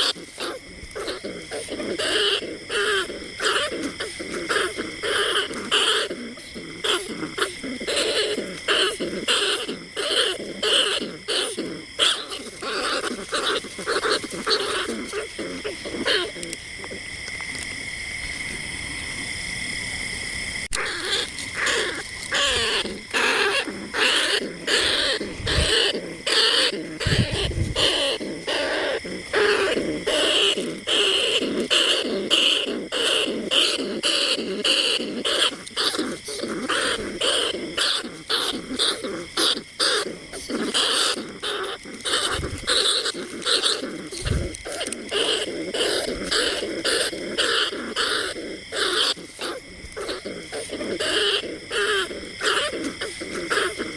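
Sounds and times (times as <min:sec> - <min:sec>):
rats squeaking: 0:00.0 - 0:17.8, 0:20.7 - 0:53.9.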